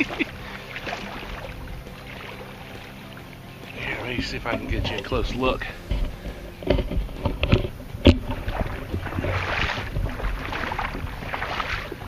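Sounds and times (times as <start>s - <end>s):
person wading through water: 0.0s - 12.0s.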